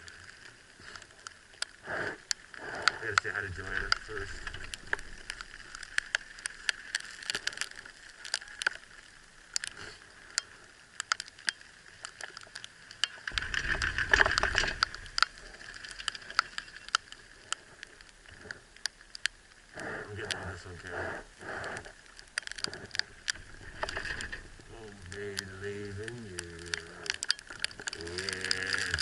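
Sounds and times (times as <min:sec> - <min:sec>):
steady hiss: 0:00.0 - 0:29.0
sleet ticking on clothing: 0:00.8 - 0:29.0.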